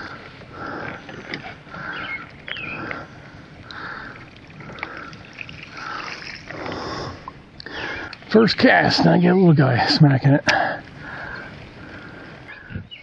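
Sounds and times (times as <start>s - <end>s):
water splashing and gurgling: 0.0s - 12.7s.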